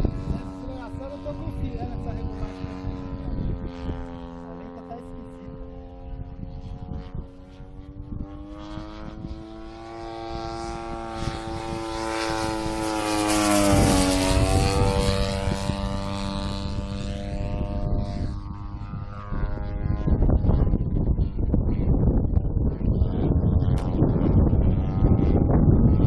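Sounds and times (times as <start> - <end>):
model plane engine droning: 0.0 - 26.0.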